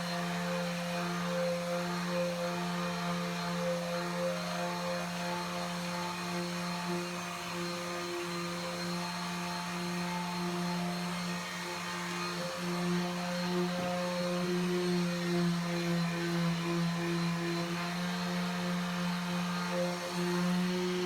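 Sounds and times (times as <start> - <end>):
electric sander running: 0.0 - 21.0.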